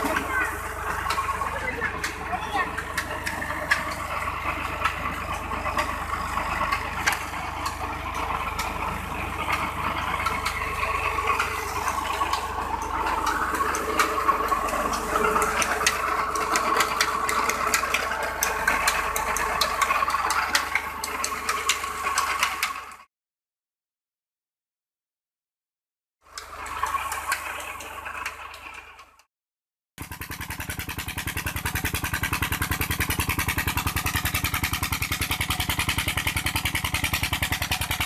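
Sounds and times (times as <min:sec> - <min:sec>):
tractor diesel engine running: 0:00.0 - 0:23.1, 0:26.3 - 0:29.3, 0:30.0 - 0:38.0.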